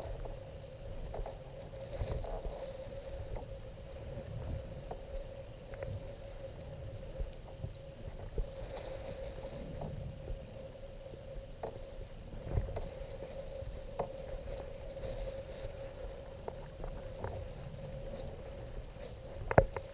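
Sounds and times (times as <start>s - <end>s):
steady mid-pitched hum: 0.0s - 19.9s
water splashing against hull: 0.0s - 19.9s.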